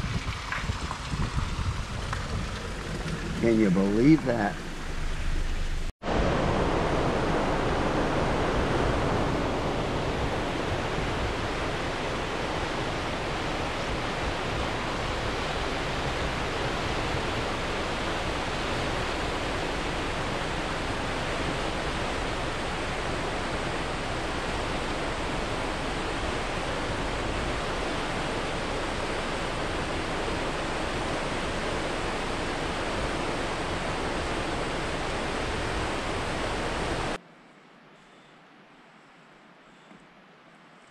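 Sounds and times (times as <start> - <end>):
fast-flowing water rushing: 0.0 - 5.1, 6.0 - 37.2.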